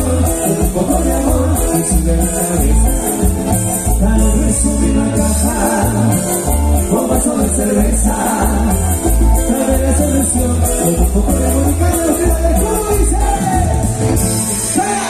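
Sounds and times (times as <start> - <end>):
cumbia band playing: 0.0 - 15.0
person singing: 0.0 - 15.0.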